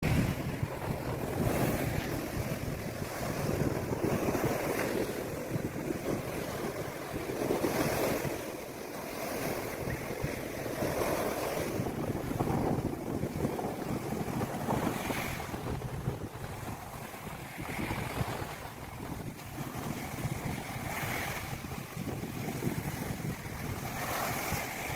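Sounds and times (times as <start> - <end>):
sea surf breaking on beach: 0.0 - 24.9
wind buffeting microphone: 0.0 - 24.9.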